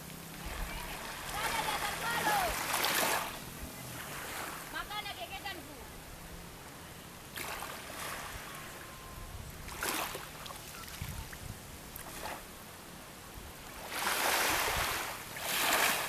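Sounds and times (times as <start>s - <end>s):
seawater splashing: 0.0s - 16.0s.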